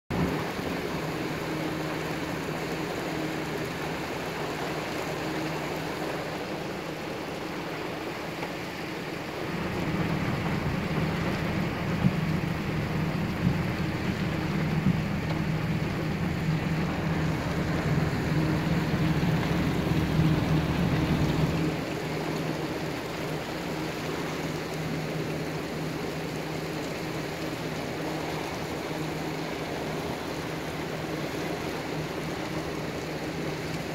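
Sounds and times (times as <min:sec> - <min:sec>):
heavy rain falling: 0:00.1 - 0:33.9
low motor hum: 0:00.1 - 0:33.9.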